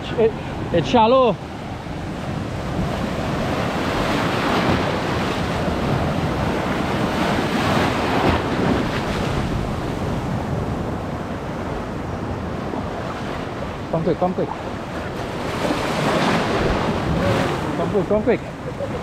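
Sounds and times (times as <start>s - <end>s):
waves breaking on rocky shore: 0.1s - 19.0s.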